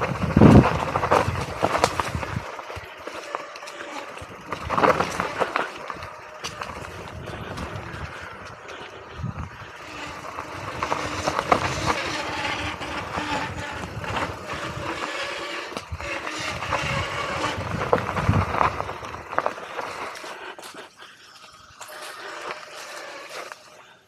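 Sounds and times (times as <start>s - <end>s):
bike knocking and rattling: 0.0s - 23.8s
bike tyres on dirt: 0.0s - 24.0s.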